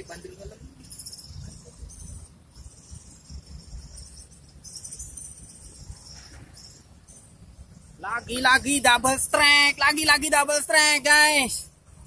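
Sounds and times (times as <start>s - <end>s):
insects chirring: 0.0s - 10.7s.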